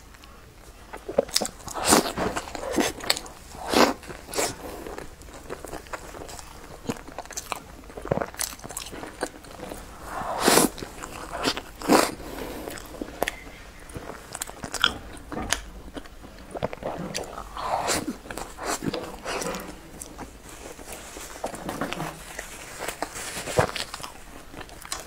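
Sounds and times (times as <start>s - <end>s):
person biting and chewing bread: 0.8s - 25.0s.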